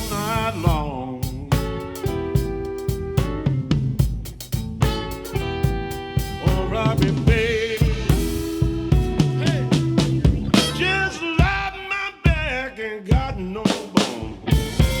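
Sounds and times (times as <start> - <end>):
bass: 0.0 - 11.6, 14.2 - 15.0
drum kit steady beat: 0.0 - 15.0.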